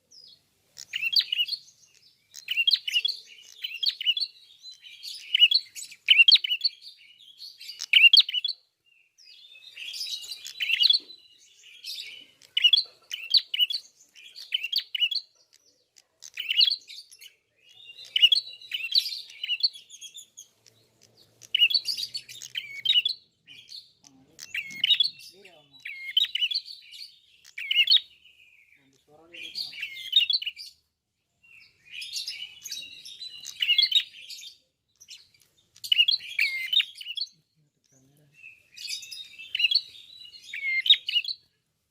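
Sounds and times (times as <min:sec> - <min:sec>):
bird chirping and trilling: 0:00.0 - 0:41.6.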